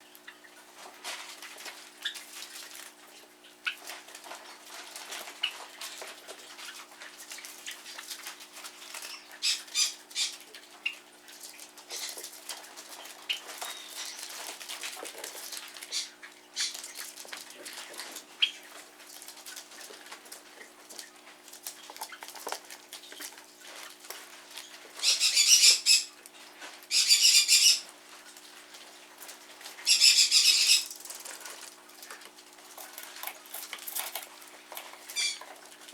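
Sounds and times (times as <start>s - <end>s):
small birds scuffling in a cage: 0.0s - 35.9s.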